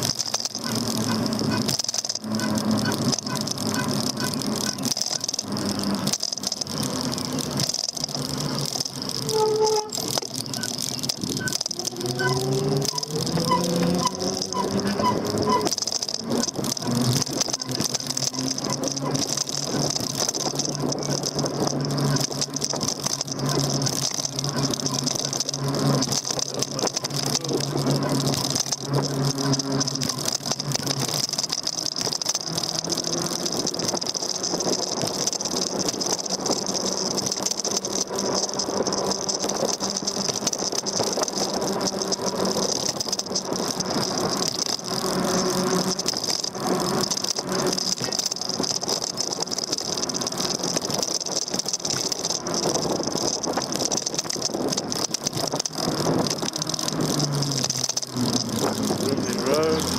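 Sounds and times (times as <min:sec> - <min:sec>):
e-bike rattling on road: 0:00.0 - 0:59.9.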